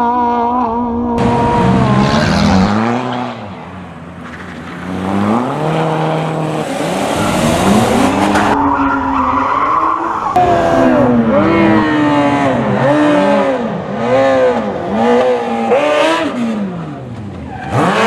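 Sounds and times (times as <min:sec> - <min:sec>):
rally car engine revving: 0:00.0 - 0:18.0
tyres skidding: 0:01.2 - 0:18.0.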